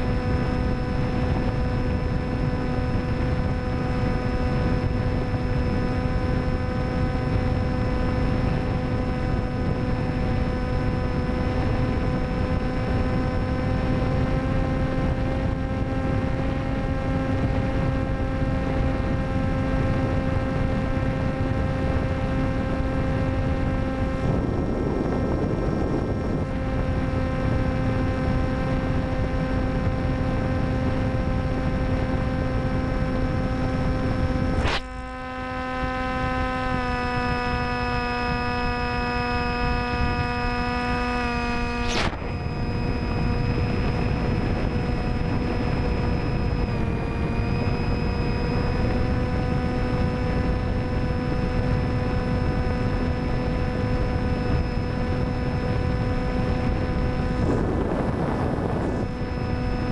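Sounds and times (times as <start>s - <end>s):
electric motor and propeller hum: 0.0s - 59.9s
wind rush: 0.0s - 59.9s.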